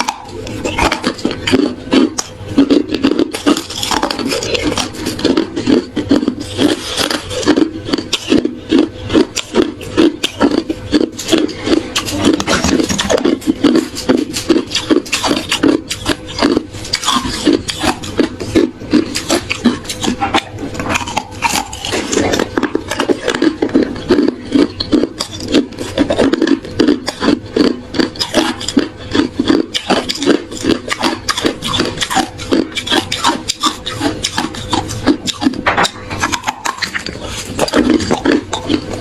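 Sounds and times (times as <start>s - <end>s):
chewing ice crunching: 0.0s - 39.0s.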